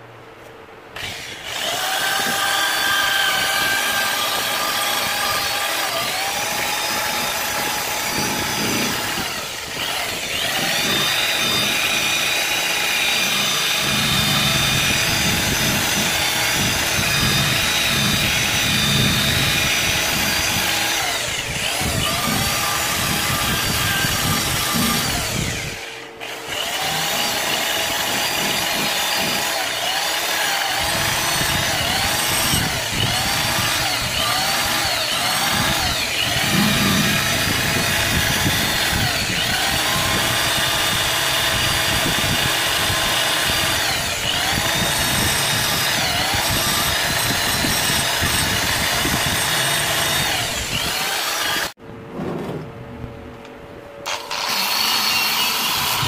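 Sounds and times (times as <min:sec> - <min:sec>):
power drill wire brush on metal: 0:01.0 - 0:51.8, 0:54.0 - 0:56.0.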